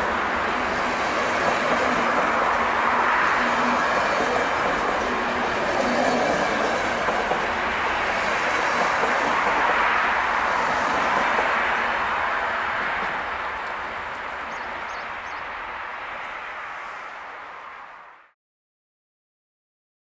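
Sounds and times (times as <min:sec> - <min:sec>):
train coaches rolling on rails: 0:00.0 - 0:18.0.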